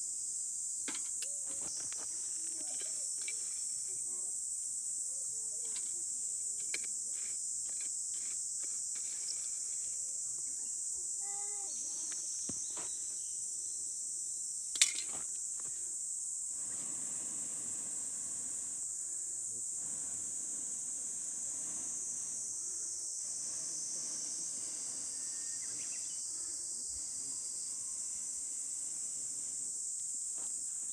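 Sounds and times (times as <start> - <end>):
insects shrilling: 0.0 - 30.9.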